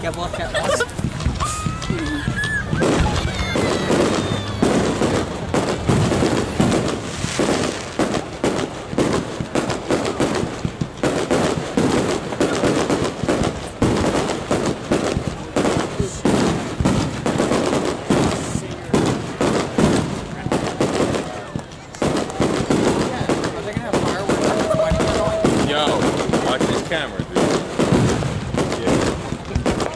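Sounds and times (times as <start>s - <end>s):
fireworks bursting and crackling: 0.0s - 29.9s.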